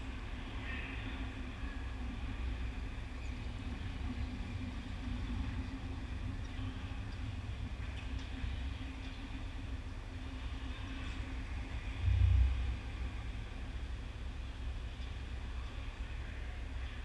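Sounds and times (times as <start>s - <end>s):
low rumble and hum: 0.0s - 17.0s.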